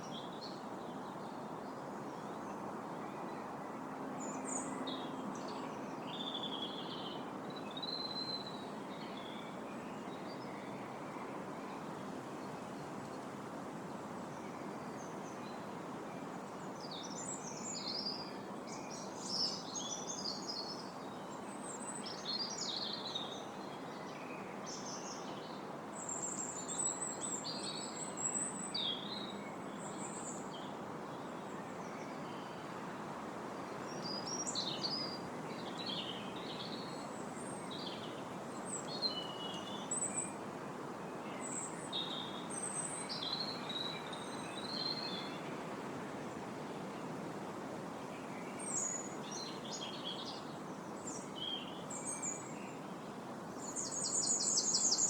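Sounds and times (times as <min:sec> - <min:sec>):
wind rustling leaves: 0:00.0 - 0:55.0.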